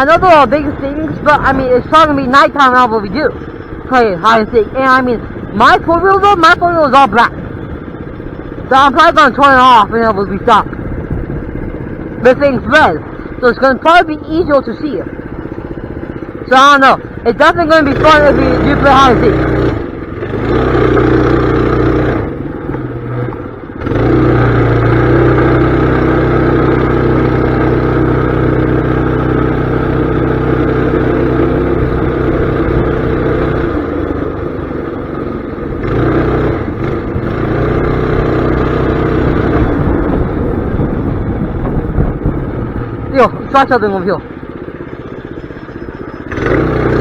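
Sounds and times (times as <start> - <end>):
mini bike engine running: 0.0 - 47.0.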